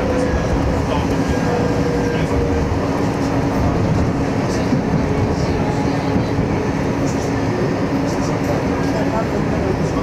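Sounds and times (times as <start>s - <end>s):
tram wheels rumbling on rail: 0.0s - 10.0s.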